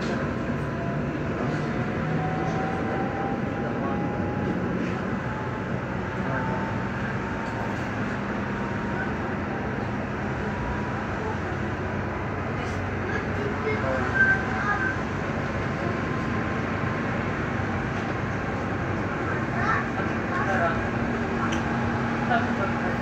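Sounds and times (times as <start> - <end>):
train rolling rumble: 0.0 - 23.0.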